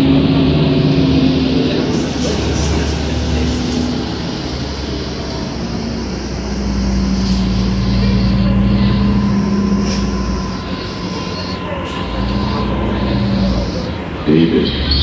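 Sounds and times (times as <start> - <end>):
bus diesel engine running: 0.0 - 15.0
road noise: 0.0 - 15.0.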